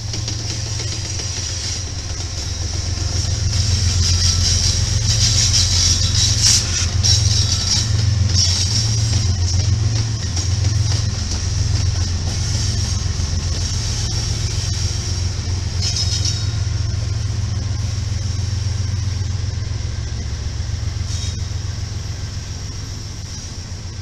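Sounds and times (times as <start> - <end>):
diesel locomotives rumbling: 0.0 - 24.0.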